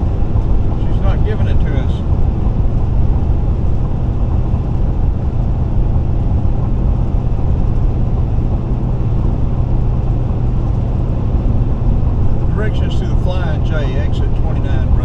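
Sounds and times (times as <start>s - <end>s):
constant hum: 0.0s - 15.0s
tyre and road noise: 0.0s - 15.0s.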